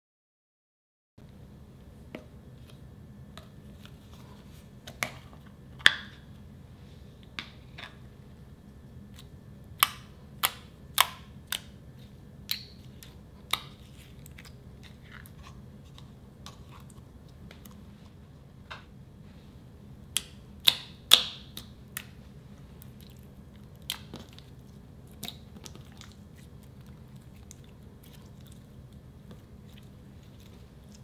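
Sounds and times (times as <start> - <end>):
steady low hum: 1.2 - 31.0.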